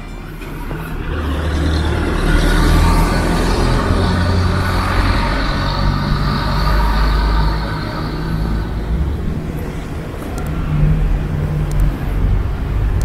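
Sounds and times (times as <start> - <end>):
vehicle engines humming: 0.0 - 13.0
vehicle passing with hiss: 0.8 - 13.0.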